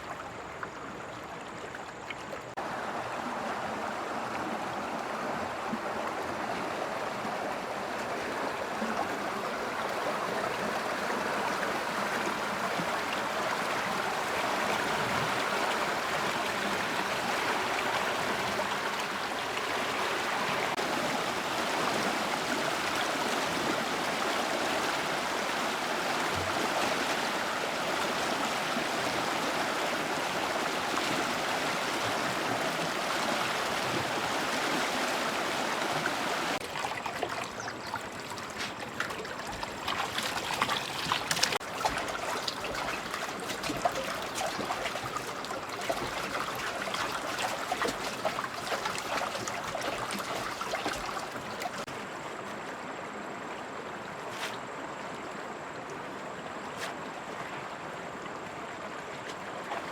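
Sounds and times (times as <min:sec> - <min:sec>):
water rushing: 0:00.0 - 0:52.9.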